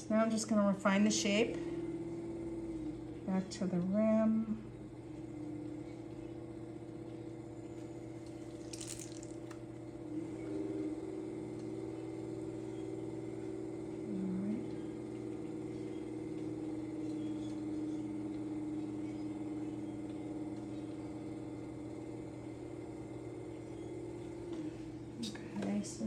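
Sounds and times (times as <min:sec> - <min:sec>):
pottery wheel motor humming: 0:00.0 - 0:26.0.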